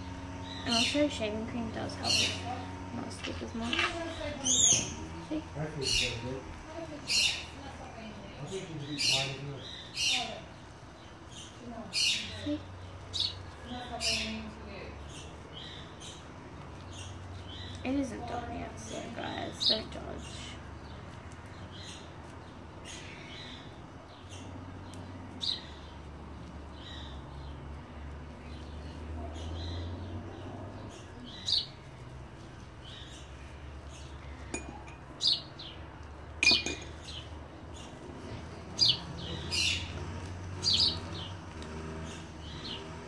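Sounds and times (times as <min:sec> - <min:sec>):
low steady hum: 0:00.0 - 0:40.3
birds chirping: 0:00.0 - 0:43.0.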